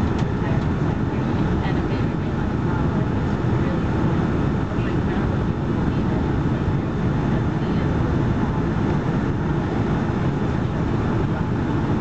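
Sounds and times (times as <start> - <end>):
airliner cabin engine and airflow noise: 0.0 - 12.0.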